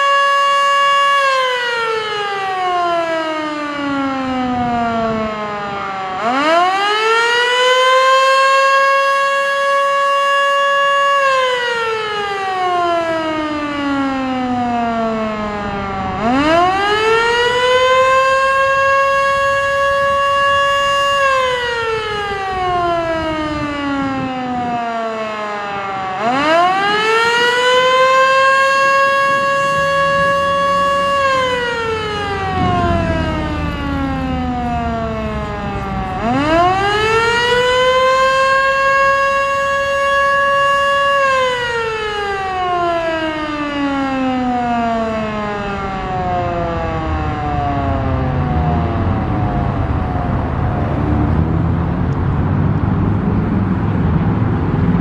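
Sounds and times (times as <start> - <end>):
wailing siren: 0.0 - 55.0.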